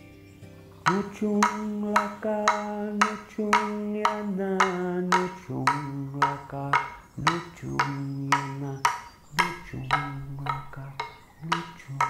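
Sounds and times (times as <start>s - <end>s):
man chanting: 0.9s - 12.0s
wooden clapsticks struck together: 0.9s - 12.0s.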